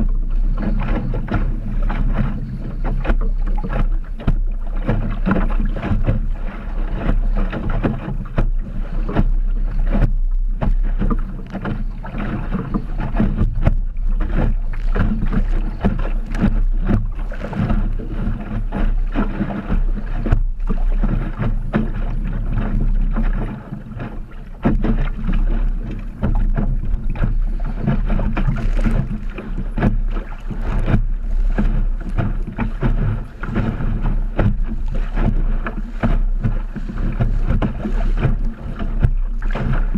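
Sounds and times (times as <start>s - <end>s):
water splashing against hull: 0.0s - 39.9s
wind buffeting microphone: 0.0s - 39.9s.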